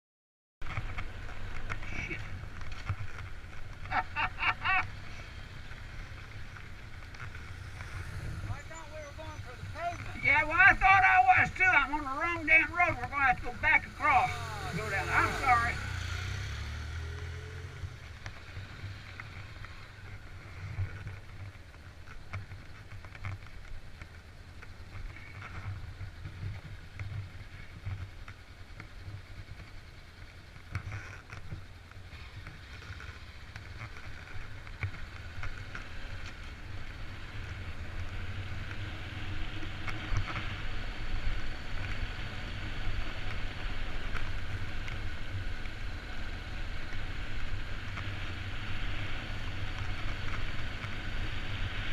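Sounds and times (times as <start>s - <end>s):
tyre and road noise: 0.6s - 51.9s
vehicle engine rumble: 0.6s - 51.9s.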